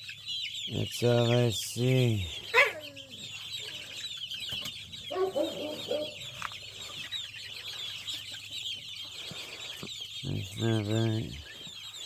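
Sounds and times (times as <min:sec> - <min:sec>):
chickens clucking: 0:00.0 - 0:12.0
high chirping of birds: 0:00.0 - 0:12.0.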